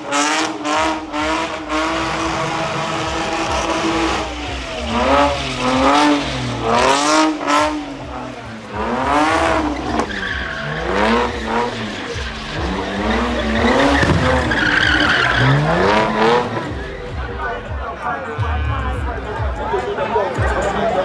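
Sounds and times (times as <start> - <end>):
car engine revving: 0.0 - 17.7
tyres skidding and squealing: 0.0 - 21.0.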